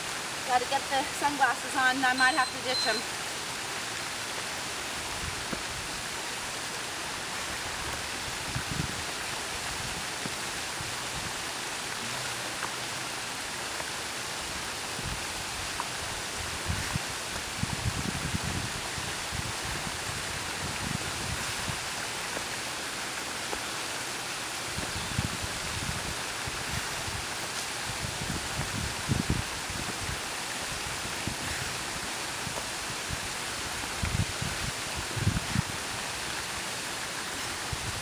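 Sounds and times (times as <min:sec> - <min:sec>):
waterfall rushing over rocks: 0:00.0 - 0:38.0.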